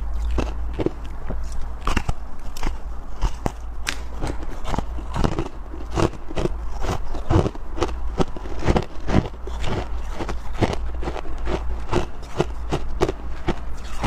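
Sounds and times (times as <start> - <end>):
crunching and chewing ice: 0.0 - 14.0
steady low hum: 0.0 - 14.0.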